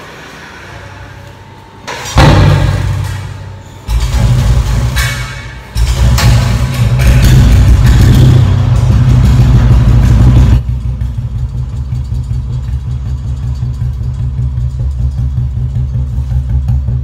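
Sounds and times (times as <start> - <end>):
motorcycle engine thumping idle: 2.0 - 17.0.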